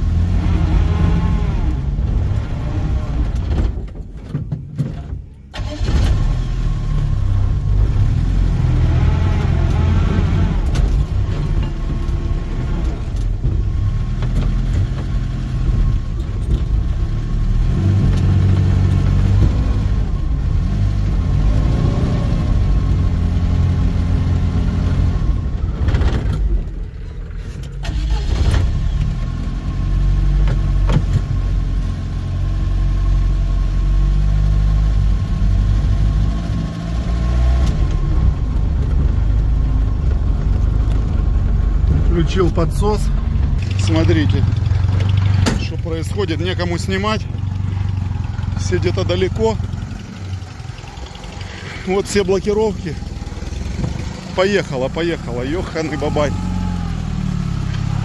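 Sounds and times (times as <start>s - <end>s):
off-road vehicle engine revving: 0.0s - 3.9s, 5.6s - 58.0s.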